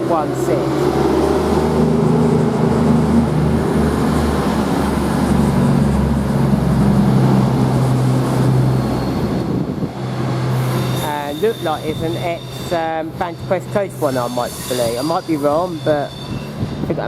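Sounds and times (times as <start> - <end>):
train diesel engines running: 0.0 - 17.0.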